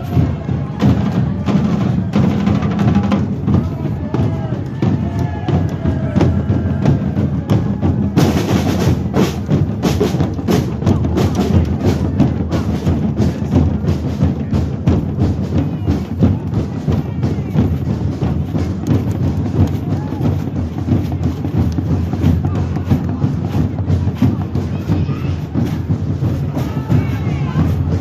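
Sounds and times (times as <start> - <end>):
drum band playing: 0.0 - 28.0.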